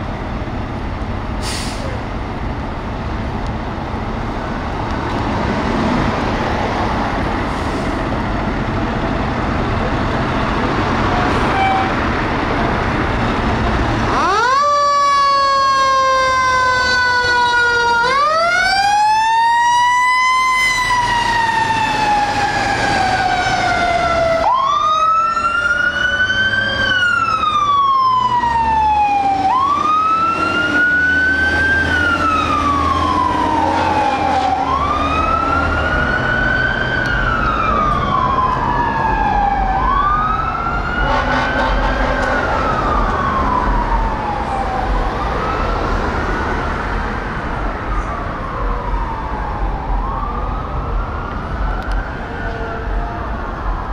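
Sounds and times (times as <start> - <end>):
truck engine rumble: 0.0 - 53.9
fire truck siren wailing: 4.5 - 53.9.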